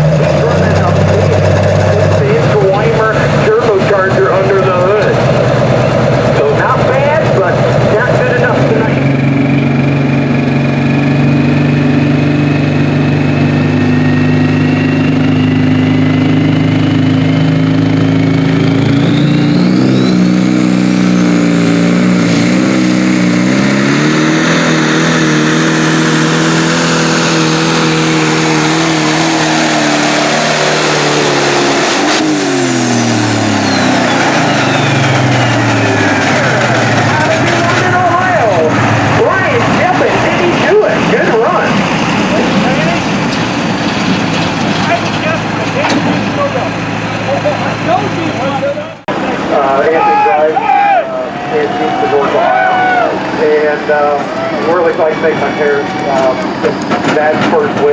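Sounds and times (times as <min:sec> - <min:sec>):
diesel engine working under load: 0:00.0 - 0:57.9
turbo whine: 0:00.0 - 0:57.9.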